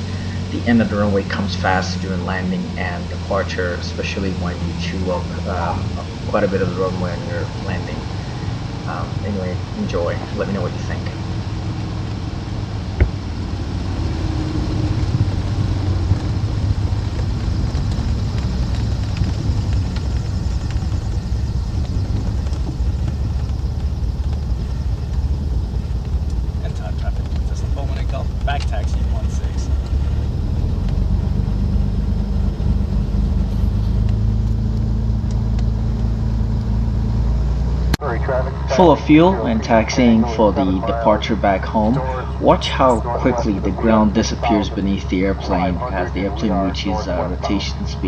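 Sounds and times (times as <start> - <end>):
airflow noise: 0.0 - 48.0
twin piston aircraft engines droning: 0.0 - 48.0.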